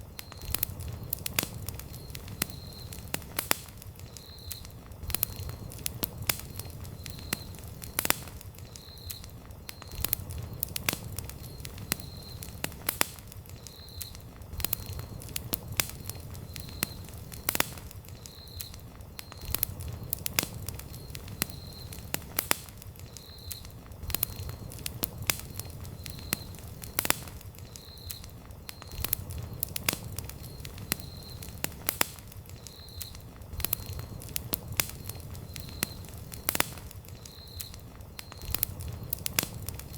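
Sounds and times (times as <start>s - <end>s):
campfire crackling: 0.0s - 39.9s
low rumble of flames: 0.0s - 39.9s.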